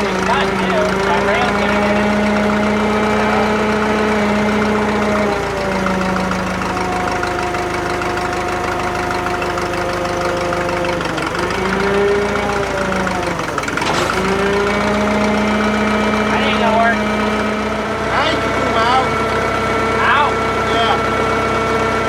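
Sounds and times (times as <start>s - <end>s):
crane engine running: 0.0s - 22.0s.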